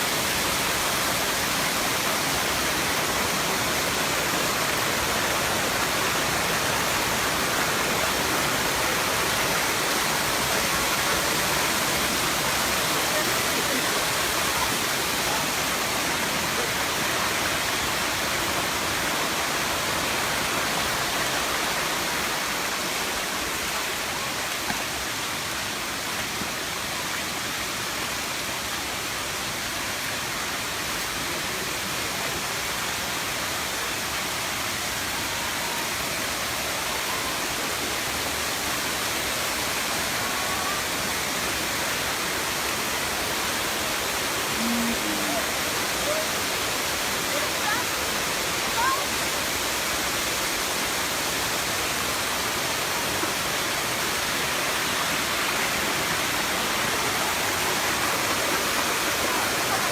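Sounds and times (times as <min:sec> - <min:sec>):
waterfall pouring and splashing: 0:00.0 - 0:59.9.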